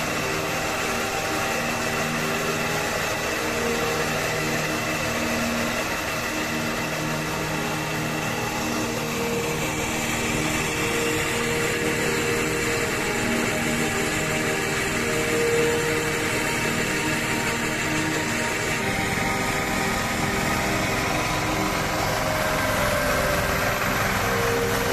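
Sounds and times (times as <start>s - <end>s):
machine engine running: 0.0s - 24.9s.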